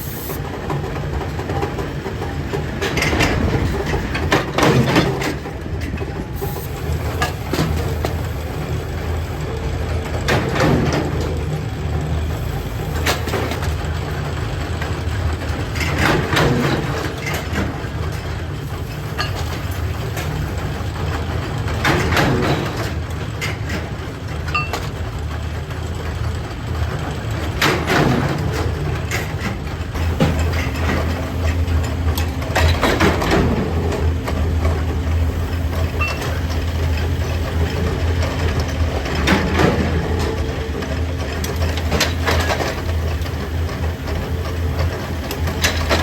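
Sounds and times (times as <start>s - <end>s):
factory machinery humming: 0.0s - 46.0s
machine clanking: 0.4s - 46.0s.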